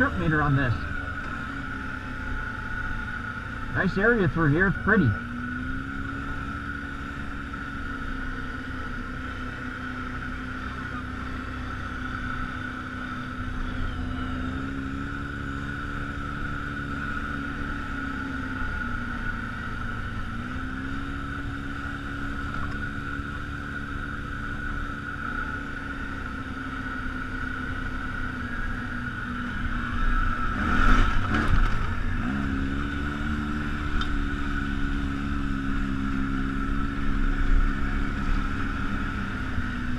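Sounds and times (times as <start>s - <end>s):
atv engine running: 0.0s - 39.9s
high whine: 0.0s - 39.9s.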